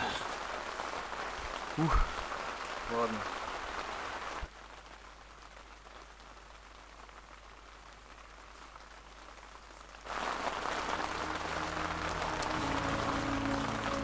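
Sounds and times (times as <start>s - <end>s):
heavy rain on a tent: 0.0s - 14.0s.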